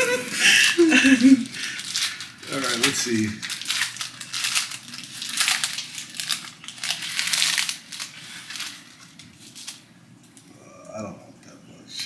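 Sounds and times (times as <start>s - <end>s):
plastic wrapper crinkling: 0.0s - 10.5s.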